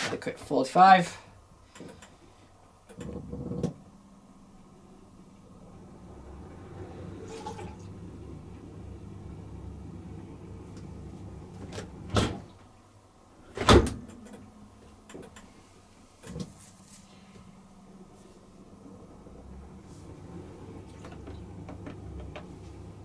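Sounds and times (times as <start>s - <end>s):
dishwasher motor hum: 1.4s - 23.0s.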